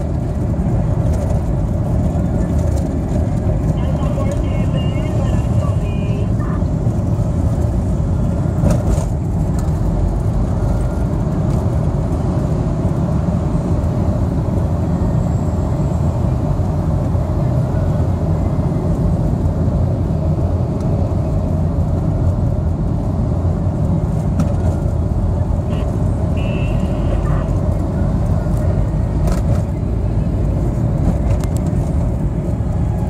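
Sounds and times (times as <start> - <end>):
car interior road rumble: 0.0 - 33.0.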